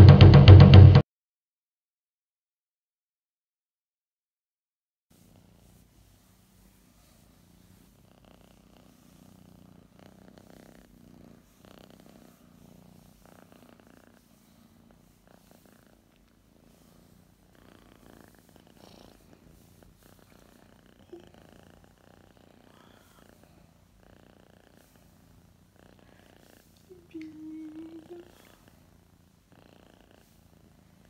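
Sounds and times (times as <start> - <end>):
cat purring: 5.1 - 31.0.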